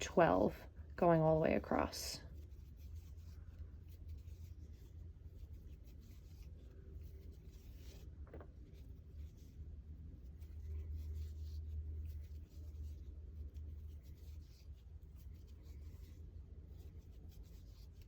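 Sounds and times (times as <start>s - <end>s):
crochet hook scratching yarn: 0.0s - 18.0s
low steady hum: 0.0s - 18.0s.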